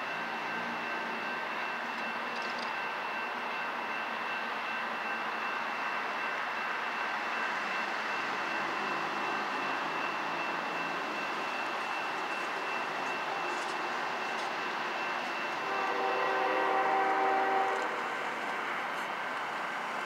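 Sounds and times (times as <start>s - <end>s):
crossing warning bell ringing: 0.0s - 20.0s.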